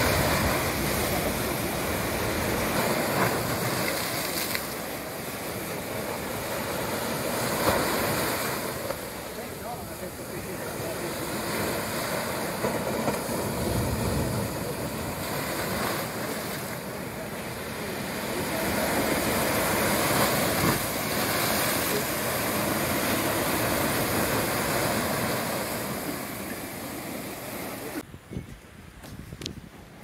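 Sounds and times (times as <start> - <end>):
sea waves breaking on beach: 0.0 - 28.0.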